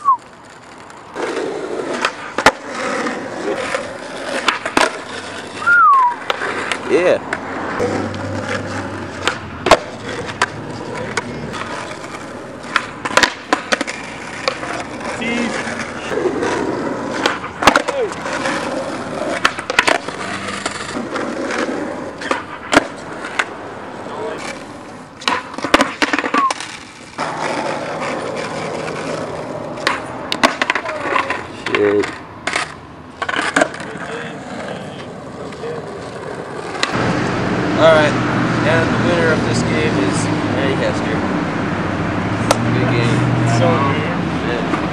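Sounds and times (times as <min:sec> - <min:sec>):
skateboard wheels rolling on asphalt: 0:00.0 - 0:44.9
skateboard clacking on pavement: 0:00.1 - 0:37.4, 0:42.4 - 0:44.9.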